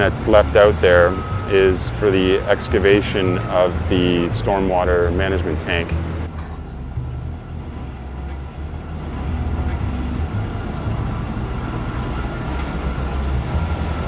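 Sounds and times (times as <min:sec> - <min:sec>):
diesel machinery engine rumble: 0:00.0 - 0:14.0.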